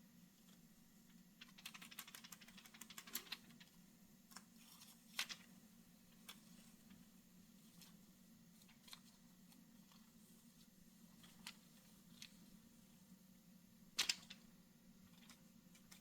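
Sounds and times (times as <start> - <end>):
faint rapid clicking: 0.4 - 12.7, 14.0 - 16.0.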